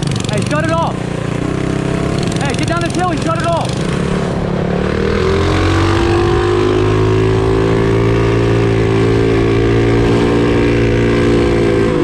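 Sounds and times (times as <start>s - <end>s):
minibike engine droning: 0.0s - 12.0s.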